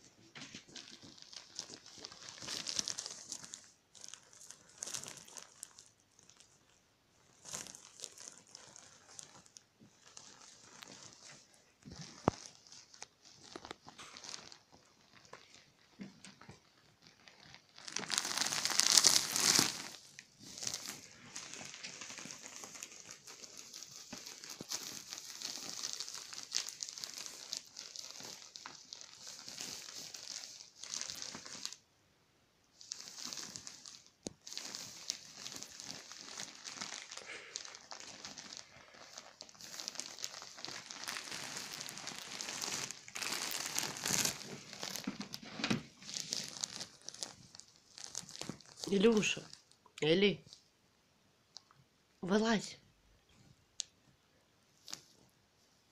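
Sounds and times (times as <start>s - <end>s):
plastic packaging crinkling: 0.0s - 31.8s, 32.7s - 50.7s, 54.8s - 55.3s.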